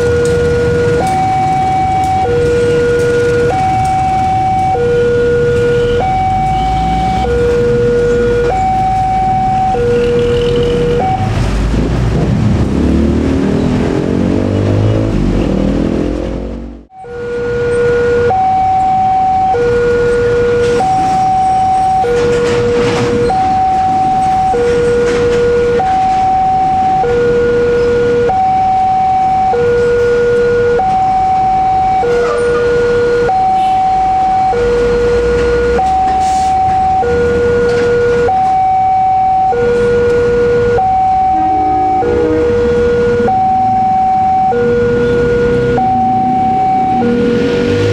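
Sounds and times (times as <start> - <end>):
two-tone crossing alarm: 0.0 - 11.4, 16.9 - 47.9.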